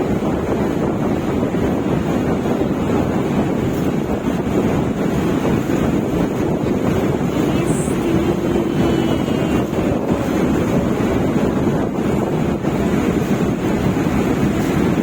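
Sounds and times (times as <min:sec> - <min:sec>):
ocean waves: 0:00.0 - 0:15.0
wind buffeting microphone: 0:00.0 - 0:15.0.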